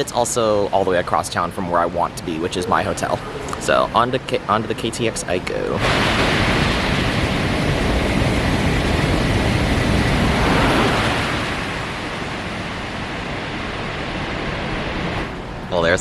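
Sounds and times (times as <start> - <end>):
high-speed train rushing: 0.0 - 16.0.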